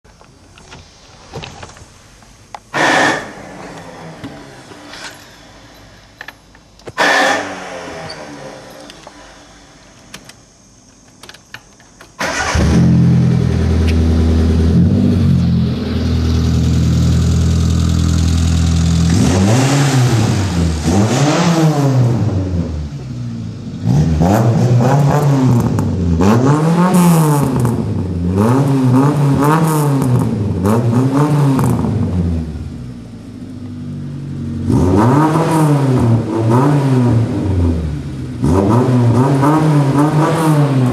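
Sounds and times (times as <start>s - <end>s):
car engine starting and revving: 2.7s - 6.1s, 6.9s - 9.8s, 12.2s - 40.9s.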